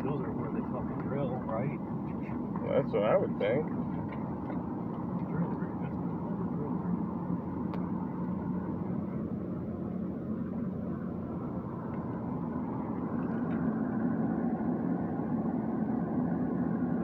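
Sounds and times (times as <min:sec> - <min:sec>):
car engine hum and road noise: 0:00.0 - 0:17.0.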